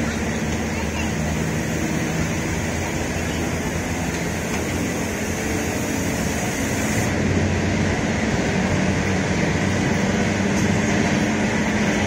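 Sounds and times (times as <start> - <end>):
train wheels rumbling and rattling: 0.0 - 12.0.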